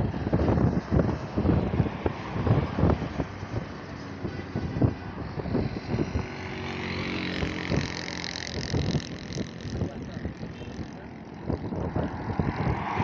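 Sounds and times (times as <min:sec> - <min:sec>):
vehicle engine hum: 0:00.0 - 0:13.0
wind buffeting microphone: 0:00.0 - 0:13.0.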